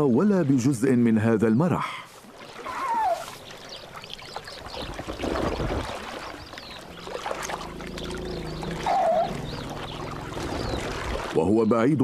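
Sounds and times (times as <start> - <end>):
water sloshing and splashing: 0.0 - 11.6.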